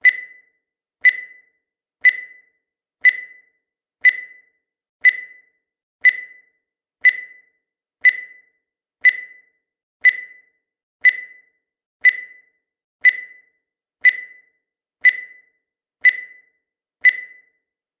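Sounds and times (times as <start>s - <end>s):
electronic timer beeps: 0.0s - 17.8s.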